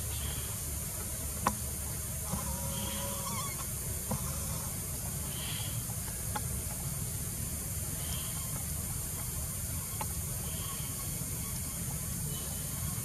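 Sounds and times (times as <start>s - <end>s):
high even hiss: 0.0s - 13.0s.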